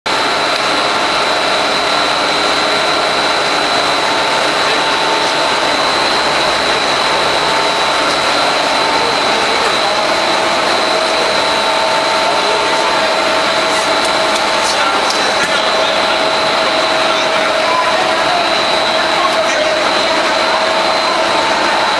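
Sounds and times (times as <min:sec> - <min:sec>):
constant high whine: 0:00.1 - 0:21.9
factory machinery running: 0:00.1 - 0:21.9.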